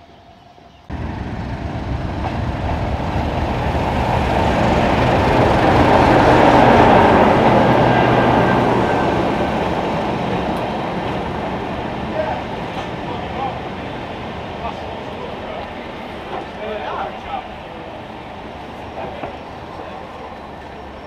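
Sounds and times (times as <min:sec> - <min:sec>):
diesel locomotive passing: 0:00.0 - 0:21.0.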